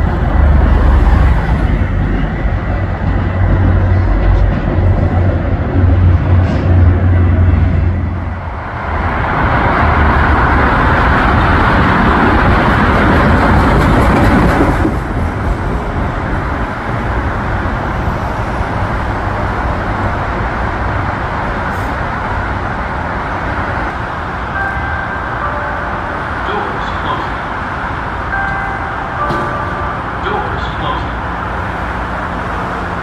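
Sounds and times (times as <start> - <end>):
train passing close by: 0.0 - 33.0.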